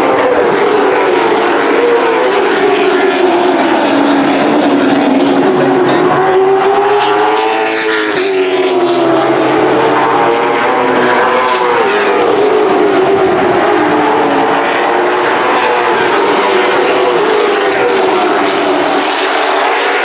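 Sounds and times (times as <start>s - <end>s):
race car engines passing by: 0.0s - 20.0s.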